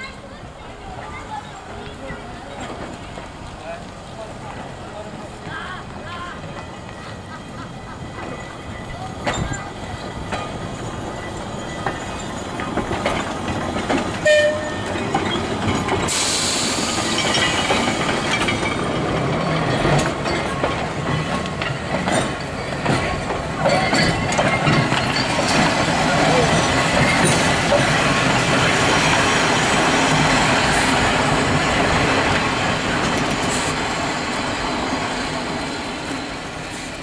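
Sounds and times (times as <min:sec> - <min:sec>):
tram car passing: 0:00.0 - 0:37.0
steel wheels clicking over rail joints: 0:05.3 - 0:37.0.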